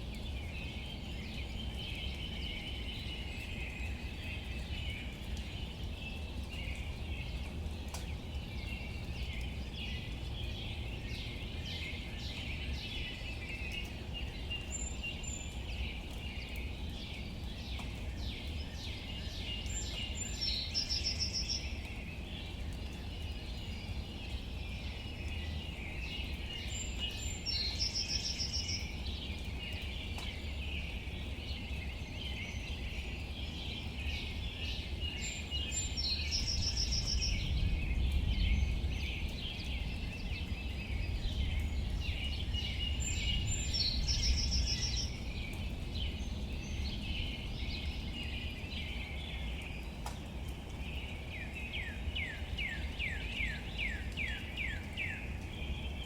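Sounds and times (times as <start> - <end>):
rain pattering on leaves: 0.0 - 56.0
birds chirping: 0.1 - 56.0.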